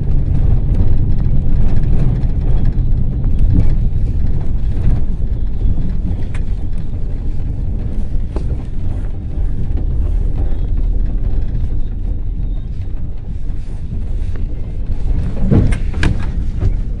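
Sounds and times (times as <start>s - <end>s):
engine and road rumble inside vehicle: 0.0s - 17.0s
small rattles and clicks: 0.0s - 17.0s.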